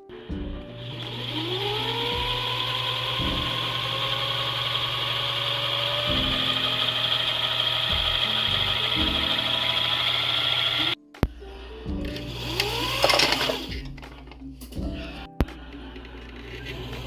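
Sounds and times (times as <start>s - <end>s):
electric motor whine: 0.0s - 11.0s, 12.1s - 14.0s, 15.5s - 17.0s.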